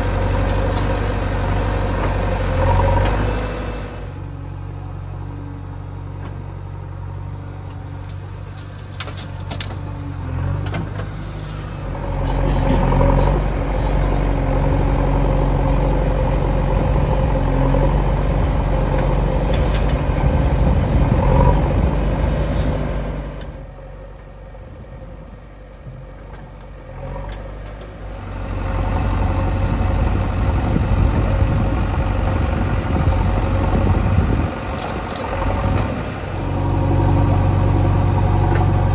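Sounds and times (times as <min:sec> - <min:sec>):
diesel engine of digger running: 0:00.0 - 0:38.9.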